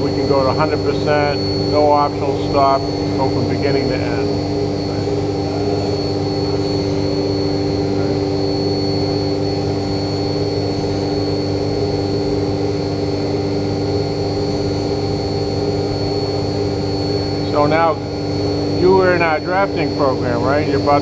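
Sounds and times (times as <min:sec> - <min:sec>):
constant high whine: 0:00.0 - 0:21.0
milling machine hum: 0:00.0 - 0:21.0.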